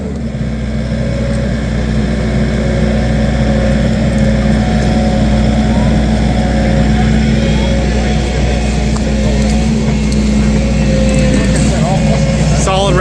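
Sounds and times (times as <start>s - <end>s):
engine running at high revs: 0.0s - 13.0s.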